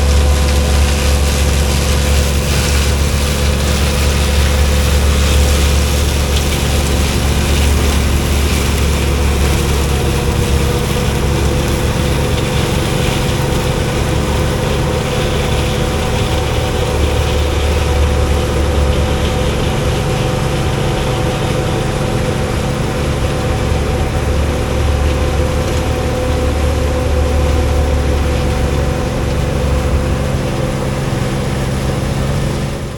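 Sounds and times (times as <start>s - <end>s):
combine harvester engine rumble: 0.0s - 32.9s
steady mechanical hum: 0.0s - 32.9s.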